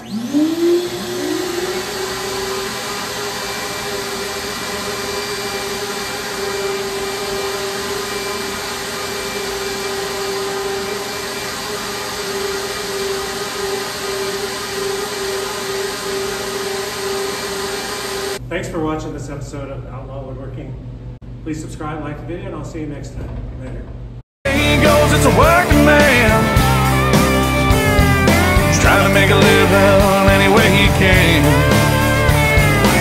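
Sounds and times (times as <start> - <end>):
vacuum pump whining: 0.0 - 18.4, 24.5 - 33.0.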